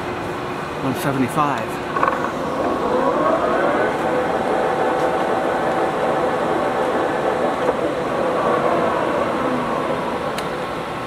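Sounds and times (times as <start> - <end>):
lathe gears whining: 1.8 - 11.0.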